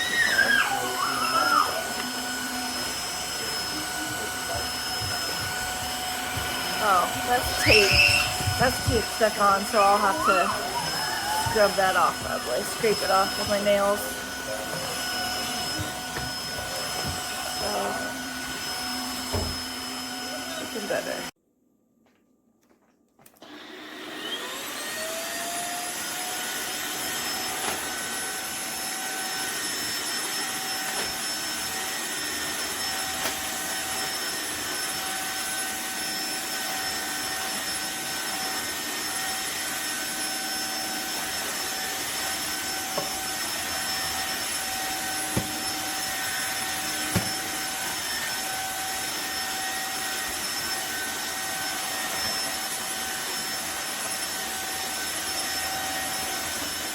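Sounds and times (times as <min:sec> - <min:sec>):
floor cleaner motor whine: 0:00.0 - 0:21.4, 0:23.4 - 0:56.9.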